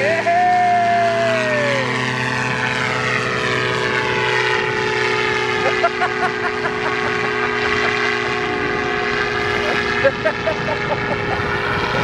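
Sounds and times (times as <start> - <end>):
propeller engine droning: 0.0 - 12.0.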